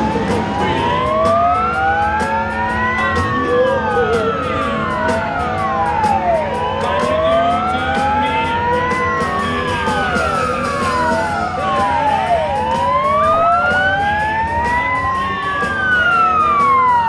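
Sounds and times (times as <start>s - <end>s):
emergency sirens wailing: 0.0s - 17.0s
engines rumbling: 0.0s - 17.0s.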